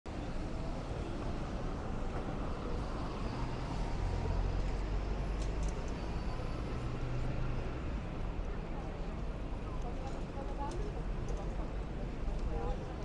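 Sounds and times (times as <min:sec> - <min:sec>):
street traffic: 0:00.1 - 0:13.0.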